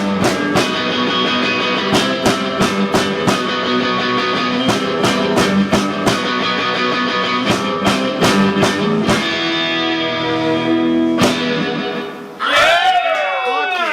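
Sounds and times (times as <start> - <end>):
hard-strummed punk guitar: 0.0 - 12.4.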